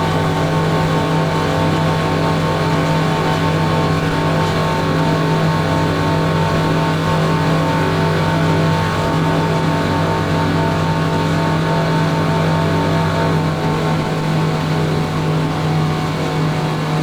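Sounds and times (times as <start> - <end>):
boat engines at high speed: 0.0 - 17.0.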